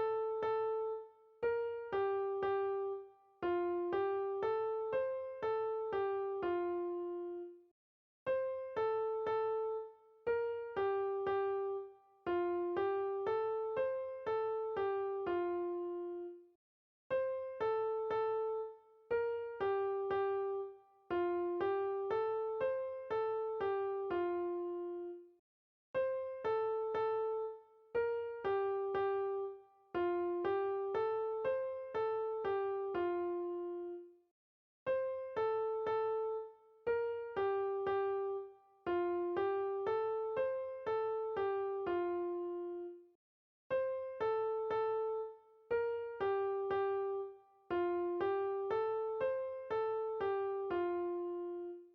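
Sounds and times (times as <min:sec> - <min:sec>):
electric piano melody: 0:00.0 - 0:07.5, 0:08.3 - 0:16.3, 0:17.1 - 0:25.2, 0:26.0 - 0:34.0, 0:34.9 - 0:43.0, 0:43.7 - 0:51.9.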